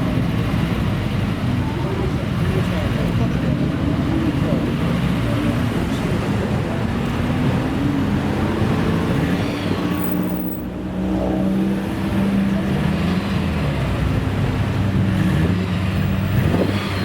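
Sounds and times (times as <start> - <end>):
car engine revving: 2.8 - 17.0.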